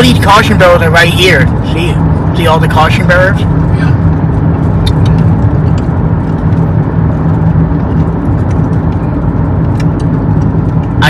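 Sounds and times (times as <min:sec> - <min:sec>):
car engine and tyre drone: 0:00.0 - 0:11.0.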